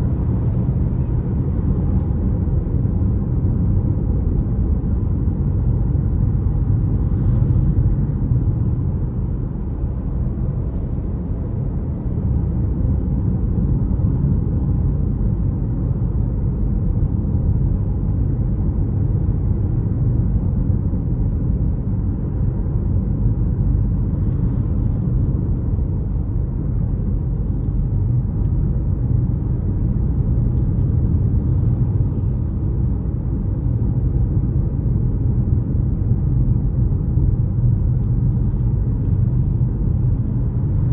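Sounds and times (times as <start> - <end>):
car driving on road: 0.0 - 40.9.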